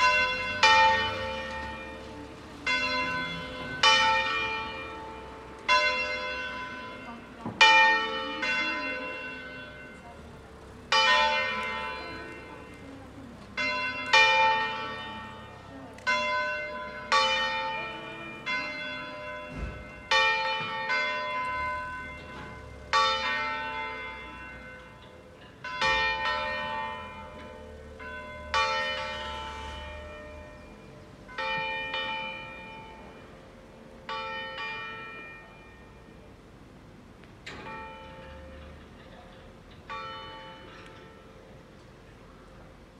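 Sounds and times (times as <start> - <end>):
swinging church bells clanging: 0.0 - 42.9.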